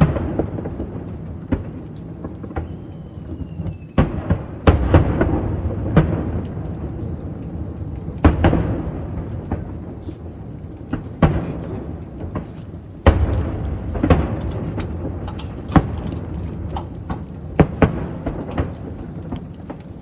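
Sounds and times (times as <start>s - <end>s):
fireworks shells booming: 0.0s - 20.0s.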